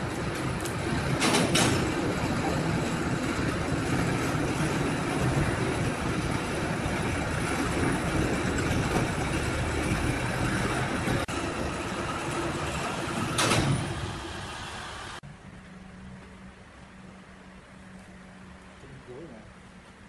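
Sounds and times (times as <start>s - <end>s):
crane hoist rumble: 0.0s - 18.8s.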